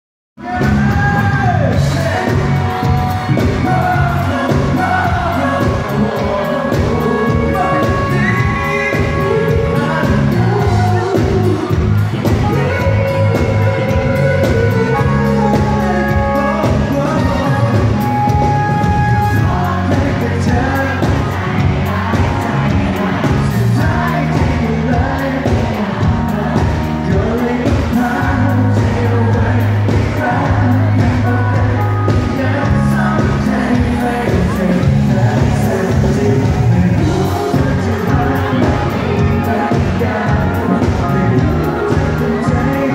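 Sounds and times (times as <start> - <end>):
band playing: 0.4 - 42.9
man singing pop song: 0.4 - 42.9.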